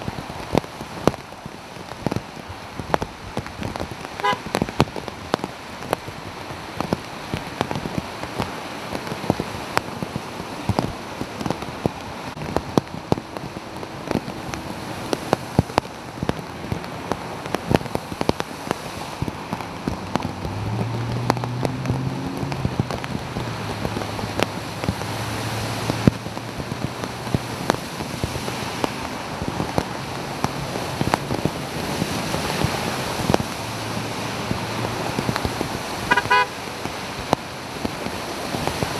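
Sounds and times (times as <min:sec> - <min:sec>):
low engine hum: 0:00.0 - 0:38.9
sharp raindrops ticking close by: 0:00.0 - 0:38.9
steady rain: 0:00.0 - 0:38.9
vehicles driving through floodwater: 0:00.0 - 0:38.9.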